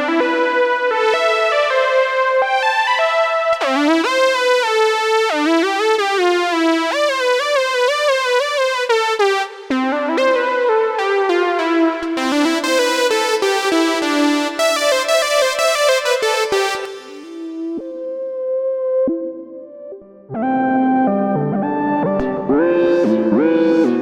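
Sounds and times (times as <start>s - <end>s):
buzzy synthesizer notes: 0.0s - 18.1s, 21.2s - 24.0s.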